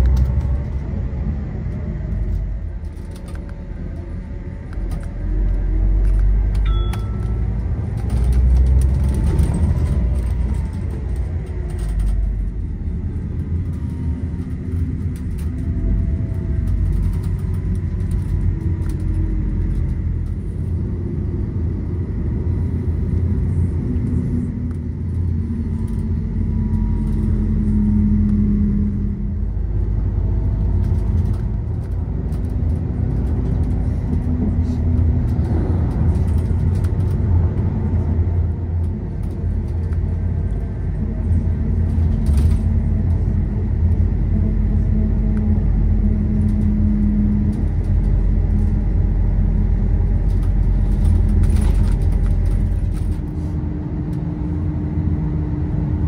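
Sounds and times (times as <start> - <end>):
vehicle running rumble: 0.0 - 56.0.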